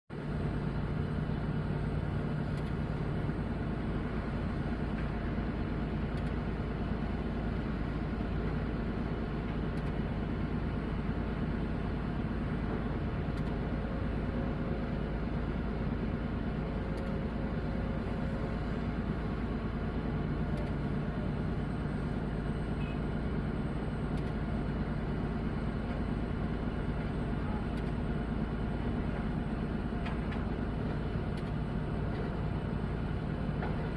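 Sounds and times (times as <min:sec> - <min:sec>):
diesel machinery engine drone: 0:00.1 - 0:33.9.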